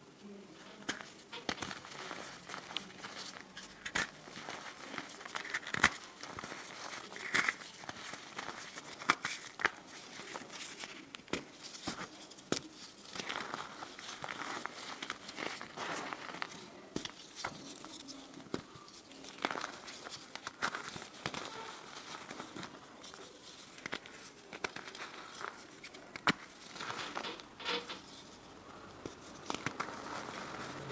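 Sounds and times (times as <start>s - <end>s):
chalk block crumbled by hand: 0.8s - 28.2s, 28.9s - 30.8s.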